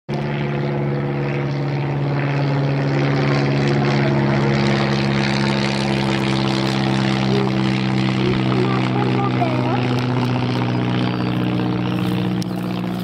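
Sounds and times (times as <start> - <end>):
pump engine running at high revs: 0.1 - 13.0.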